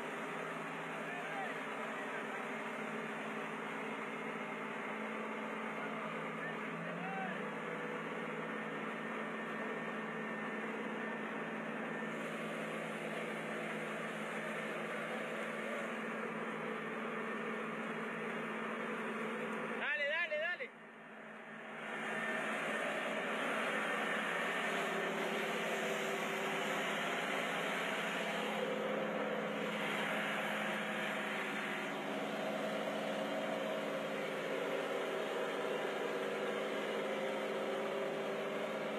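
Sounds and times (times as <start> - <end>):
tractor diesel engines droning: 0.0 - 38.9.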